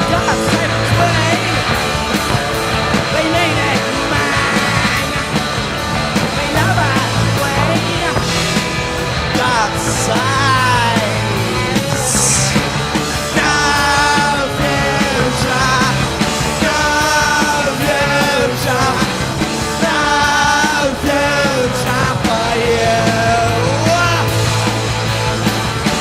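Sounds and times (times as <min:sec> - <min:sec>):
person singing lead vocals: 0:00.0 - 0:24.5
punk rock band playing: 0:00.0 - 0:26.0.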